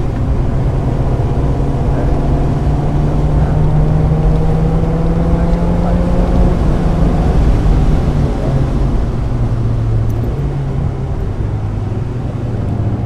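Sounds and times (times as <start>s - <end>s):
car engine under load: 0.0s - 13.0s
road and spray noise: 0.0s - 13.0s.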